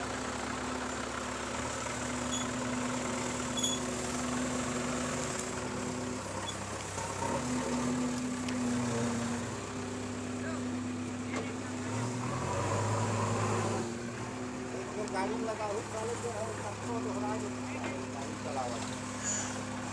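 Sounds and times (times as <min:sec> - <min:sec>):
diesel engine humming: 0:00.0 - 0:19.9.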